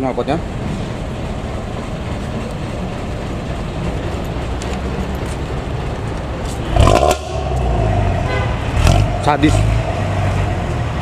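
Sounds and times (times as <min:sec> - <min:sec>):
bus exhaust deep rumble: 0:00.0 - 0:11.0.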